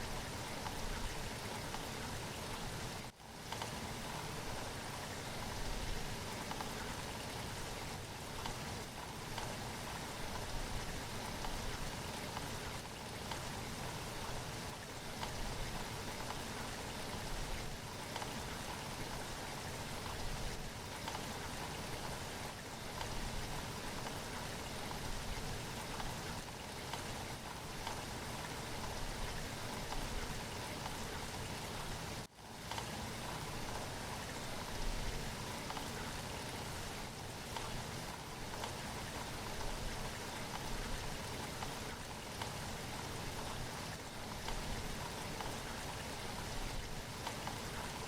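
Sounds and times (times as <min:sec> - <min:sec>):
rain pattering on a surface: 0:00.0 - 0:48.0.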